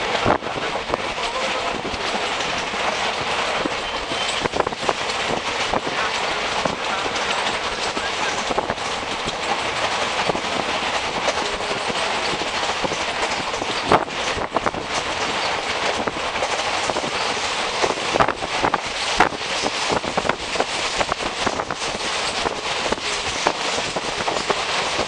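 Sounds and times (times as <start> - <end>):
train rushing noise: 0.0 - 25.0
wheels clattering over rail joints: 0.0 - 25.0.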